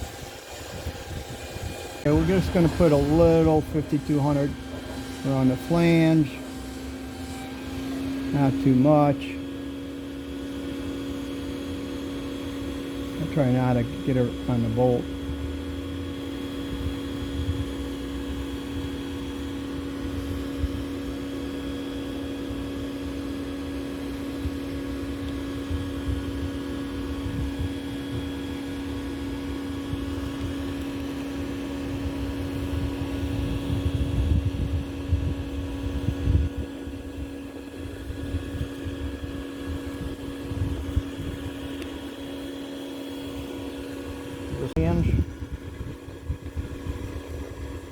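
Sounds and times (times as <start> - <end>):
steady mechanical hum: 0.0 - 47.9.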